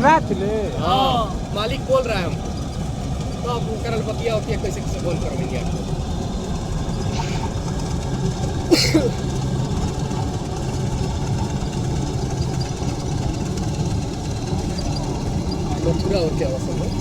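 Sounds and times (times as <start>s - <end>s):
harvester engine running: 0.0s - 17.0s.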